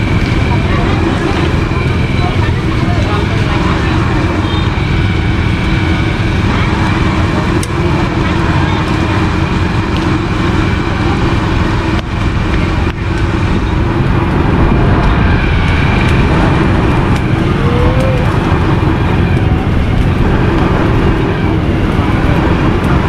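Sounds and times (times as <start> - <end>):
roadside traffic rumble: 0.0 - 23.0.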